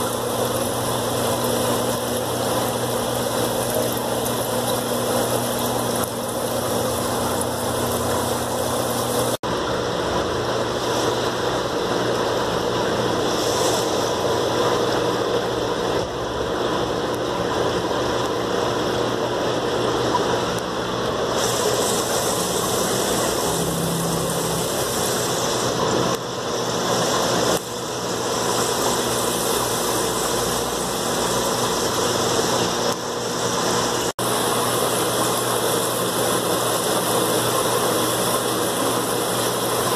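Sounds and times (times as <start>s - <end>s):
aquarium air pumps humming: 0.0s - 39.9s.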